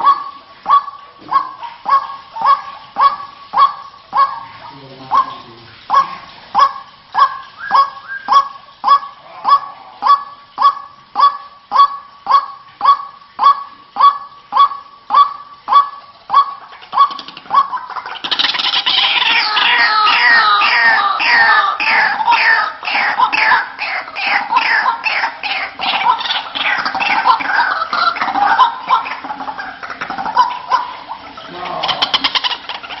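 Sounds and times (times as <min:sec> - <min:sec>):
chorus of overlapping bird calls: 0:00.0 - 0:33.0
waterhen honking calls: 0:00.0 - 0:33.0.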